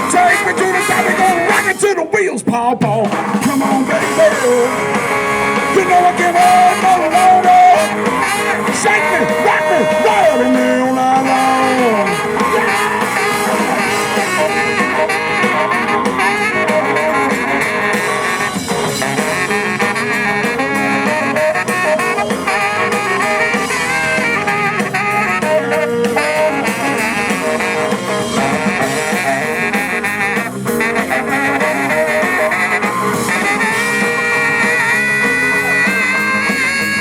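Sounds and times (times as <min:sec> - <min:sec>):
lead guitar solo: 0:00.0 - 0:01.8, 0:03.1 - 0:37.0
live blues-rock band playing: 0:00.0 - 0:37.0.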